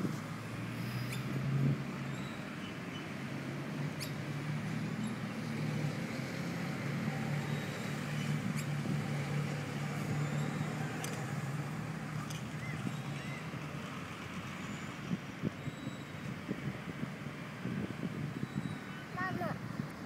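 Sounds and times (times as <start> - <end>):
road traffic engine hum: 0.0 - 20.0.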